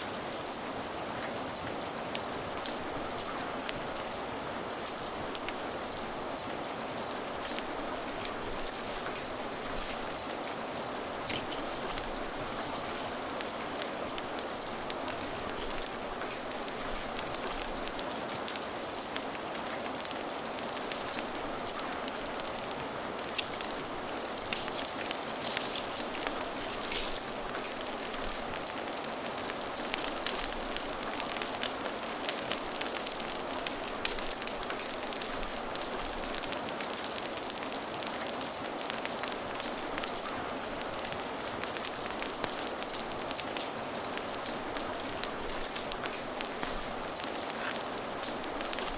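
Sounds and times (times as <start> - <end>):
fire crackling and popping: 0.0 - 48.9
steady rain: 0.0 - 48.9.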